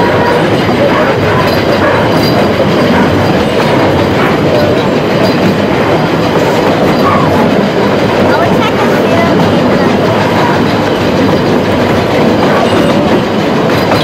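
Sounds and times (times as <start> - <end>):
train wheels rumbling and clicking: 0.0 - 14.0.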